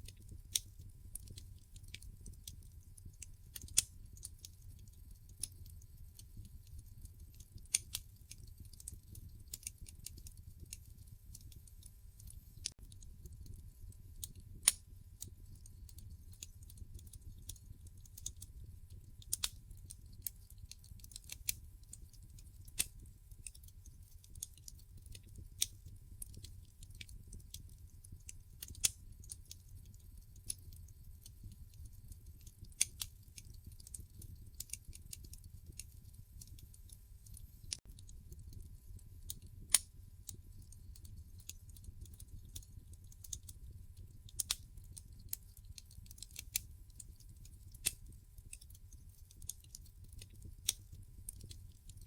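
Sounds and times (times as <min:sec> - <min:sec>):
logs crackling and popping: 0:00.0 - 0:52.0
low rumble of flames: 0:00.0 - 0:52.0.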